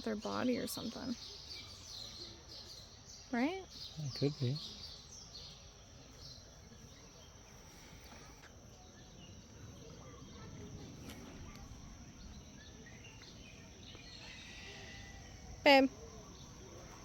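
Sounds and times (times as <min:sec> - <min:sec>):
insects: 0:00.0 - 0:17.0.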